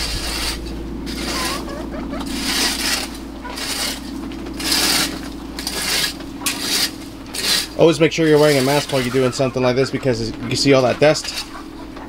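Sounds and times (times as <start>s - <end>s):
rake scraping across dry dirt: 0.0s - 12.0s.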